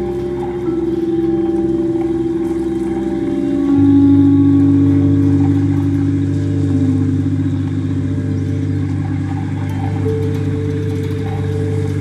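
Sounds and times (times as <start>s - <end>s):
electronic vocoder drone: 0.0s - 12.0s.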